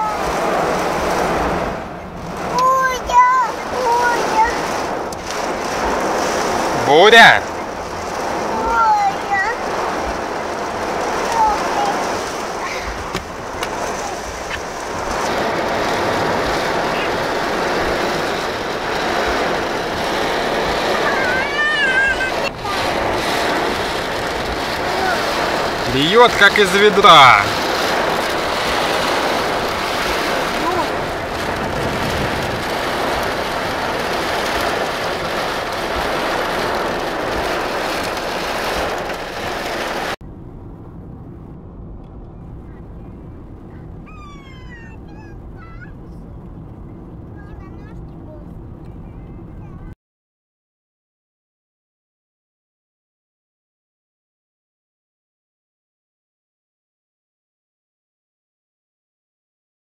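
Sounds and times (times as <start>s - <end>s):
heavy rain beating on a car: 0.0s - 40.2s, 42.1s - 50.0s.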